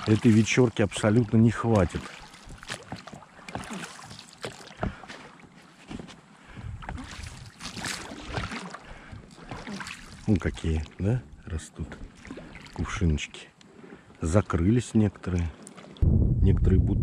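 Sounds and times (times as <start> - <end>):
light hiss of water and wind: 0.0 - 16.0
oars splashing and knocking: 0.0 - 16.0.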